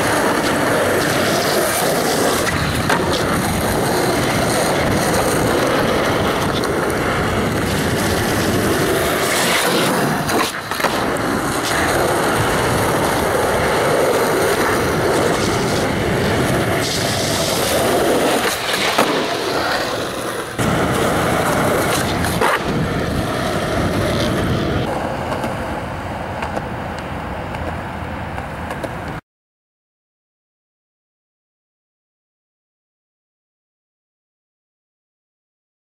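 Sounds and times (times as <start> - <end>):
skateboard clacks: 0.0 - 29.2
skateboard wheels rolling on asphalt: 0.0 - 29.2.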